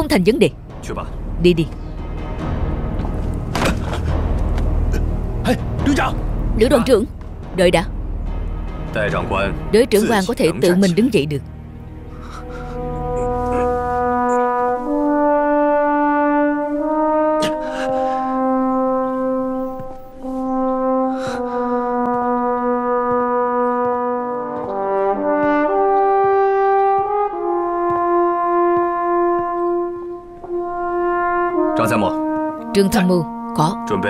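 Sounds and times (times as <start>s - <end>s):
slow brass melody: 0.7s - 34.0s.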